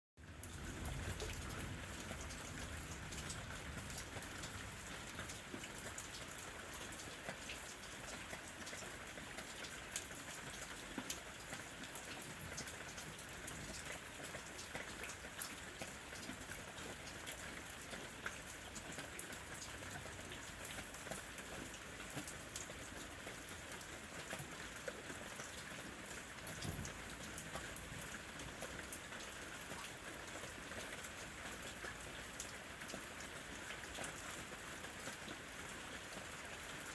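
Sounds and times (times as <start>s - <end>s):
light rain falling: 0.2s - 36.9s
raindrops ticking on surfaces: 0.2s - 36.9s.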